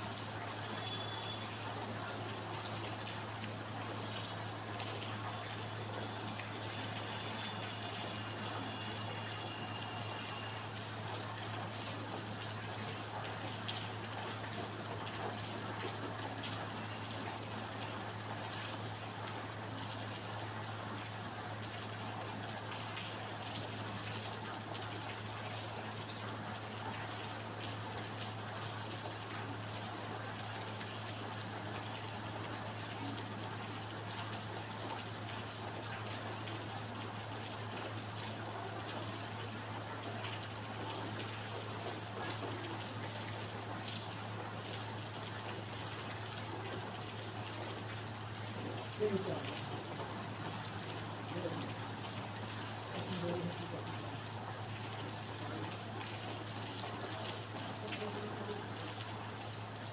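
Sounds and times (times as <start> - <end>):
raindrops ticking: 0.1 - 59.9.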